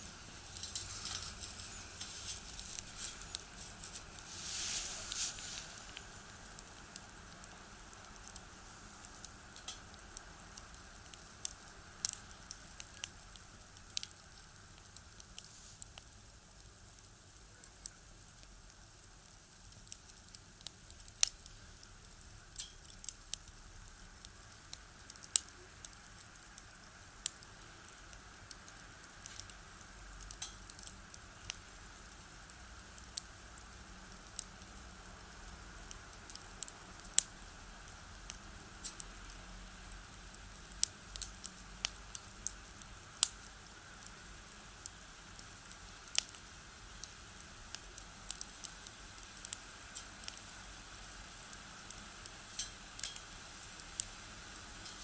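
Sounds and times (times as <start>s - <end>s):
faint steady hiss: 0.0s - 55.0s
firewood crackling and popping: 0.0s - 55.0s.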